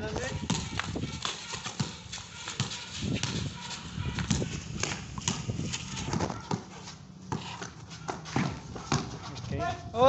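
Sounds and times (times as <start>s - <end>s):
basketball bouncing on concrete: 0.0s - 9.5s
players' footsteps: 0.1s - 9.6s.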